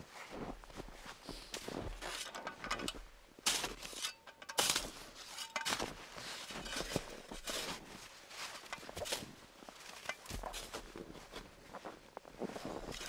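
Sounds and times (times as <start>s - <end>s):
boots crunching in snow: 0.0s - 2.3s, 4.7s - 13.0s.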